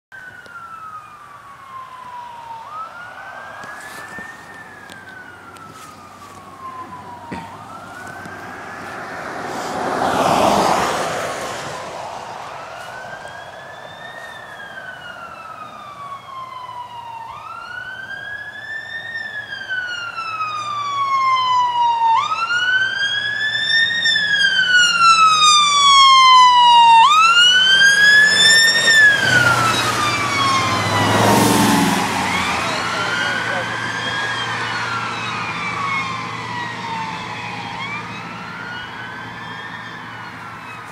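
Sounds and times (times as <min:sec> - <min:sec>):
wail siren: 0:00.1 - 0:40.9
truck engine rumble: 0:00.2 - 0:40.9
car passing by: 0:01.7 - 0:16.4, 0:22.3 - 0:40.9.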